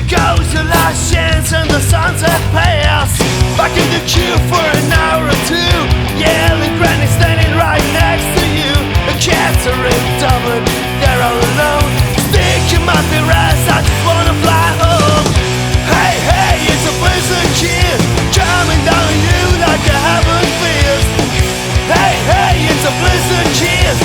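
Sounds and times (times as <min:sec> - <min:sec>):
live punk rock band: 0:00.0 - 0:24.0
steady drum beat: 0:00.0 - 0:24.0.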